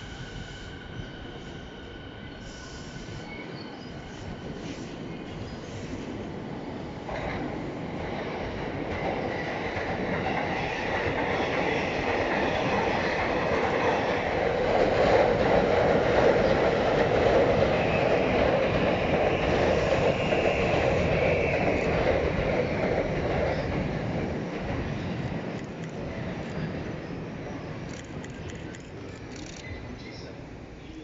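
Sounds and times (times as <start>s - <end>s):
electric train pulling away: 0.0s - 26.0s.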